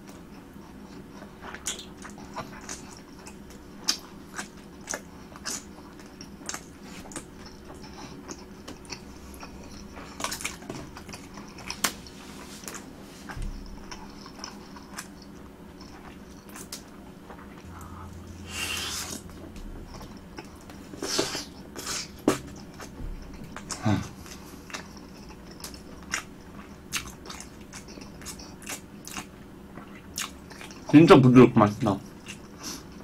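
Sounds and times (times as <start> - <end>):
chewing with mouth smacks: 0.0 - 30.9, 32.0 - 33.0.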